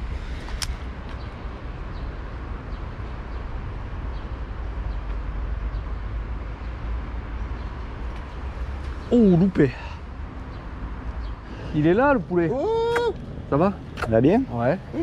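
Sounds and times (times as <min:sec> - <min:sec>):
city rumble: 0:00.0 - 0:15.0.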